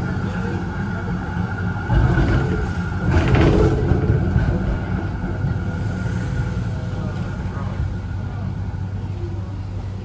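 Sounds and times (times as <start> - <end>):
tram running gear rumble: 0.0 - 10.0.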